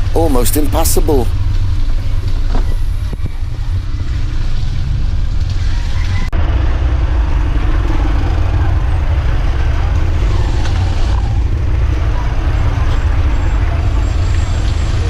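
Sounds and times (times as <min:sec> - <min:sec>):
vehicle rumble and road noise: 0:00.0 - 0:15.0.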